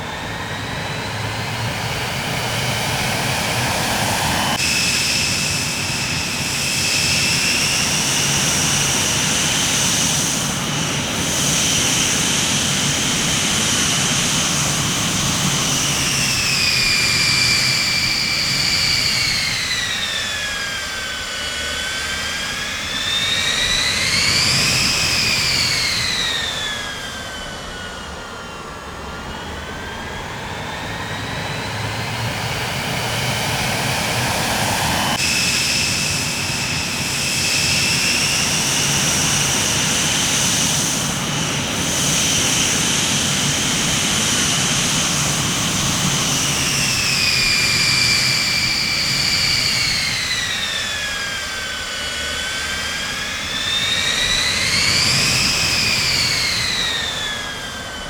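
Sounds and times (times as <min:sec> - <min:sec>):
jet engine low rumble: 0:00.0 - 0:58.0
jet engine whine: 0:00.0 - 0:58.0.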